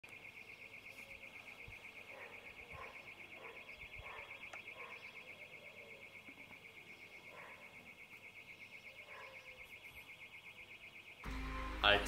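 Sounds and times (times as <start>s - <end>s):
faint pulsing alarm tone: 0.0s - 11.4s.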